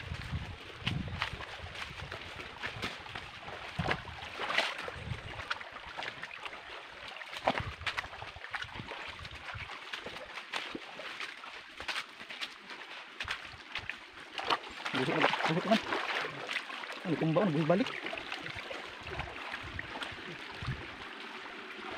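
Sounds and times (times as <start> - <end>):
footsteps on stones and gravel: 0.0 - 21.5
shallow water trickling and splashing: 0.0 - 21.9.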